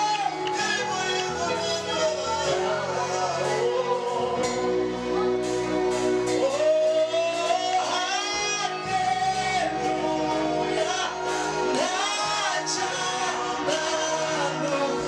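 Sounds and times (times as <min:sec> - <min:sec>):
man singing into a microphone: 0:00.0 - 0:05.1, 0:06.3 - 0:15.0
band sustained chords: 0:00.0 - 0:15.0
guitar: 0:00.0 - 0:15.0.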